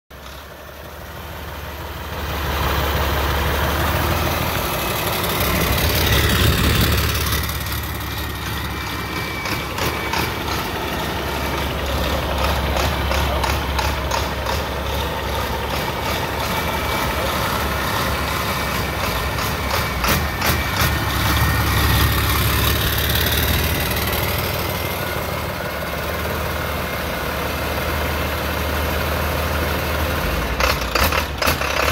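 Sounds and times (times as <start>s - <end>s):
diesel engine idling: 0.1s - 31.9s.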